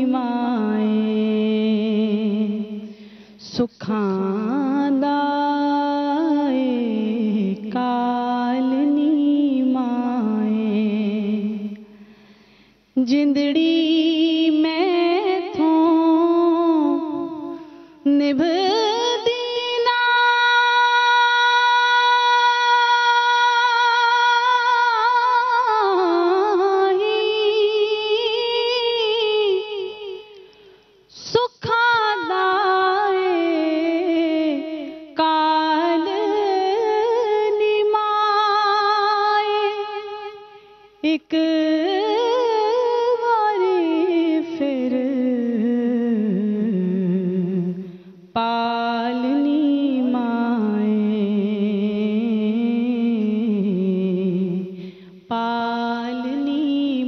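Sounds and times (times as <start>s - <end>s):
woman singing unaccompanied: 0.0s - 11.9s, 13.0s - 30.5s, 31.1s - 57.0s.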